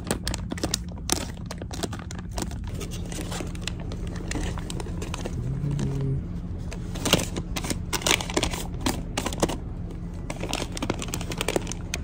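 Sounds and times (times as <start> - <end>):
packaging crinkling: 0.0 - 12.0
steady low hum: 0.0 - 12.0.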